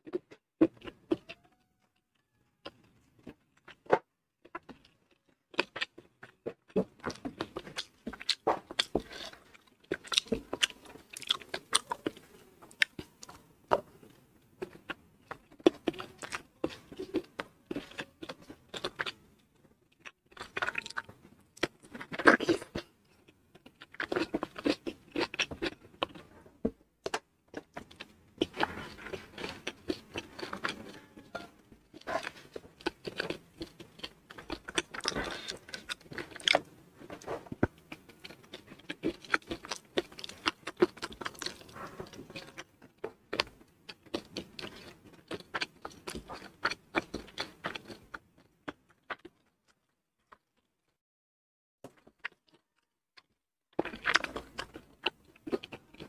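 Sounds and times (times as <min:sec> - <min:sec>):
chewing and crunching mouth sounds: 0:00.0 - 0:50.7, 0:51.9 - 0:56.0.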